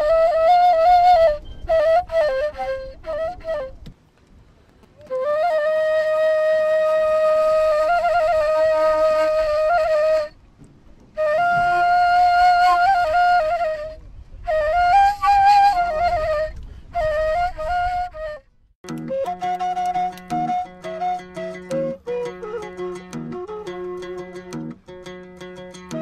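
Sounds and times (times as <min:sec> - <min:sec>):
reed flute melody: 0:00.0 - 0:04.0, 0:05.0 - 0:26.0.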